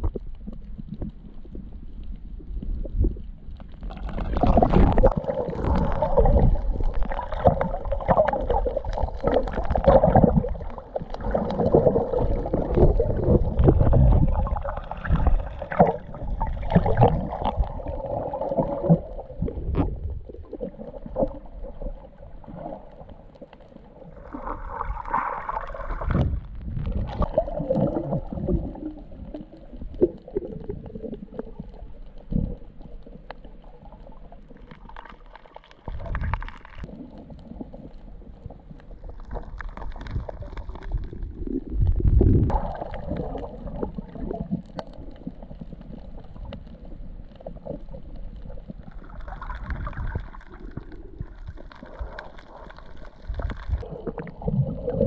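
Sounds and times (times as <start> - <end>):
underwater gurgling and rumbling: 0.0 - 55.0.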